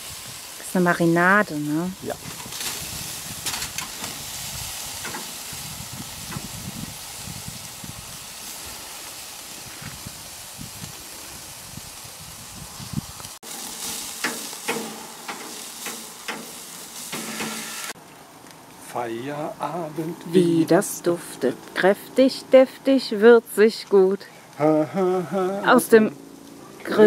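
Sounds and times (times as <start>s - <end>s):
meat sizzling on a grill: 0.0s - 27.0s.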